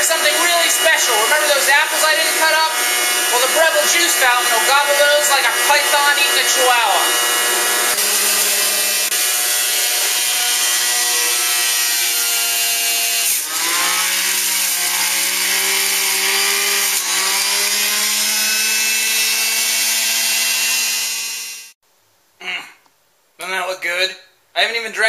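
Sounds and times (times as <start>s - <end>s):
juicer motor whining: 0.0s - 21.6s.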